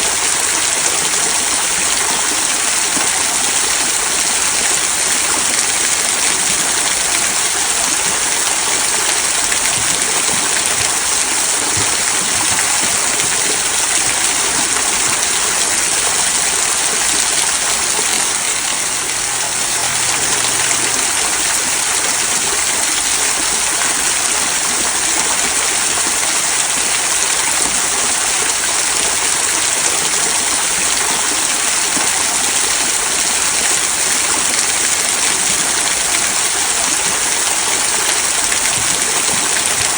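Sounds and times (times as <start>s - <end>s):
waterfall trickling over stones: 0.0s - 39.9s.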